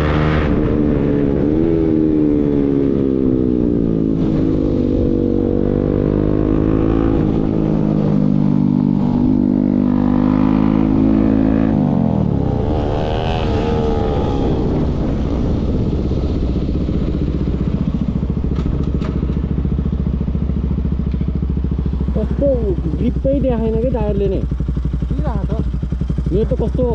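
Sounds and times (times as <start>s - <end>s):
motorcycle engine: 0.0s - 26.9s.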